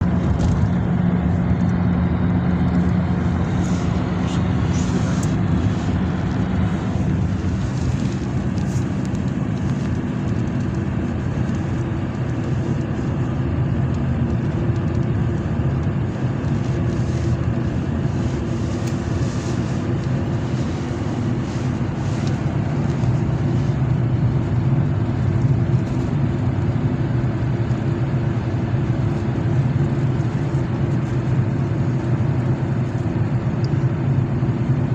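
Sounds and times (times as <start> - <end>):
road traffic hum: 0.0 - 34.9.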